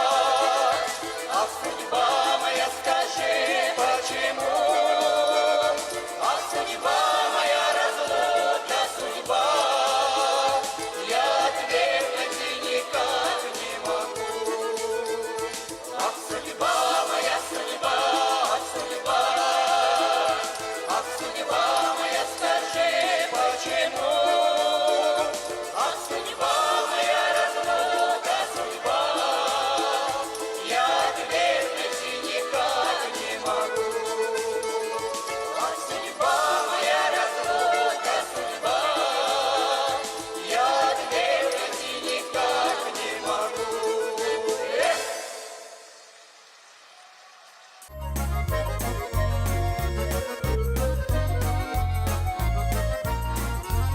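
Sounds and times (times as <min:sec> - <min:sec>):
group singing folk song: 0:00.0 - 0:53.9
musical accompaniment: 0:00.0 - 0:53.9.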